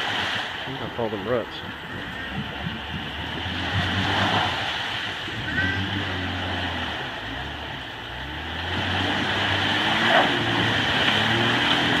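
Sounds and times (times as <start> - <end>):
truck engine working hard: 0.0 - 12.0.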